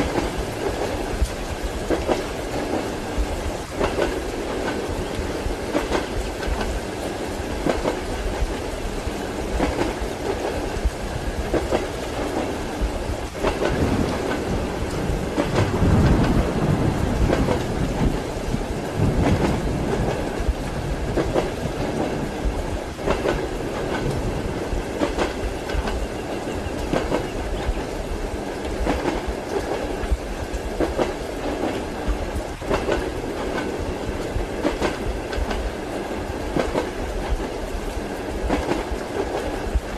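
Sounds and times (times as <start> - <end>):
rain hiss: 0.0 - 39.9
train wheels clickety-clack: 0.0 - 39.9.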